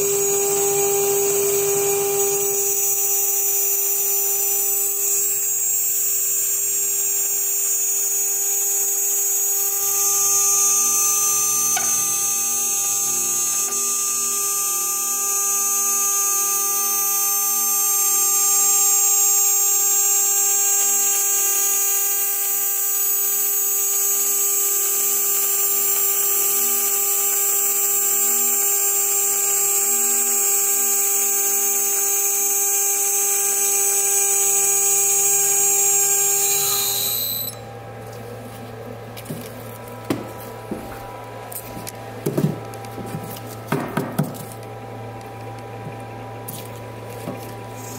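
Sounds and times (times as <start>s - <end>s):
router spindle whine and cutting hiss: 0.0s - 47.9s.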